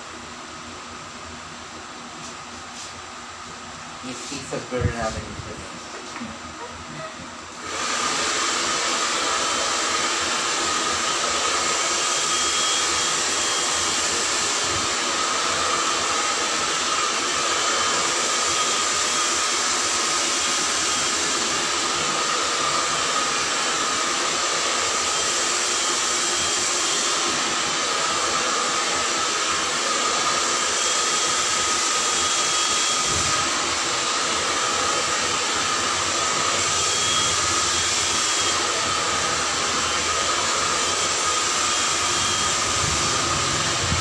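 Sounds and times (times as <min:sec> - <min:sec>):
hair dryer blowing: 0:00.0 - 0:44.0.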